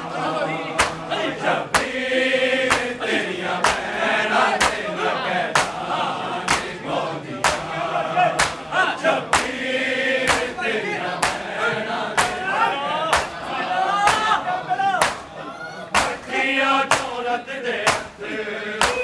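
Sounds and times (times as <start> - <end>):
men chanting together: 0.0 - 19.0
men slapping chests in unison: 0.6 - 19.0.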